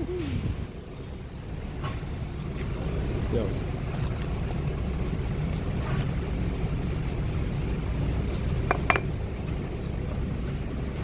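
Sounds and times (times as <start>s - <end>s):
differential low hum: 0.0s - 11.0s.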